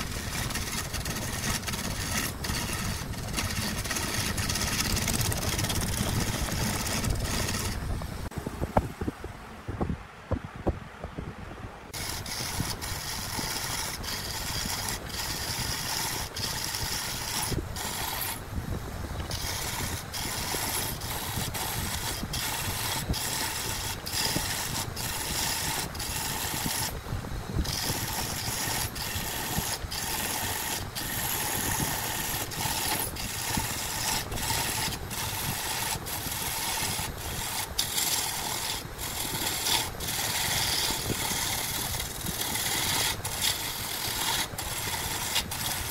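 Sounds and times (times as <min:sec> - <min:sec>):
lathe tool scraping wood: 0:00.0 - 0:08.3, 0:11.9 - 0:45.9.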